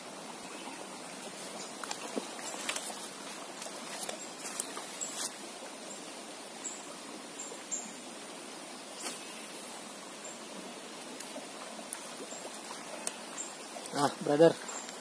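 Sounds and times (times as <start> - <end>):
fast-flowing creek water: 0.0 - 15.0.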